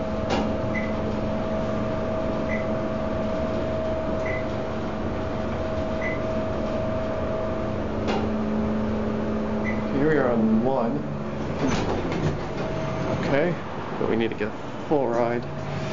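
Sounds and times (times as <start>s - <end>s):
elevator drive hum: 0.0s - 15.9s.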